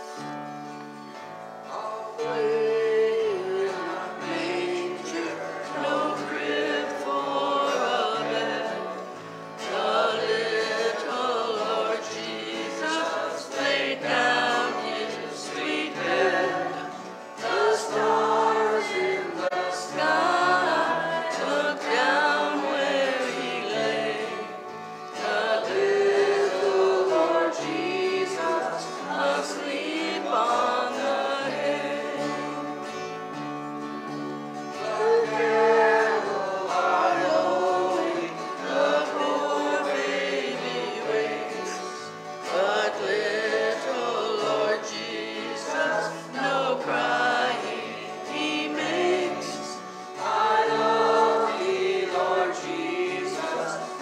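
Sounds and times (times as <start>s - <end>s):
group singing a hymn: 0.0s - 54.0s
guitar accompaniment: 0.0s - 54.0s.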